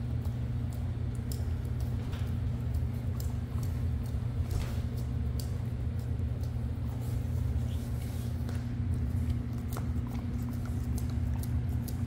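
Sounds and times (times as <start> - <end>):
dog licking ice cream: 0.0 - 12.0
steady low hum: 0.0 - 12.0.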